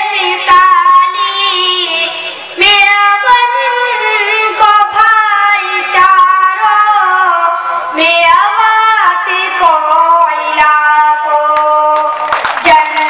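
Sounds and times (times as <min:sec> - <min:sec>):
boy singing solo: 0:00.0 - 0:12.1.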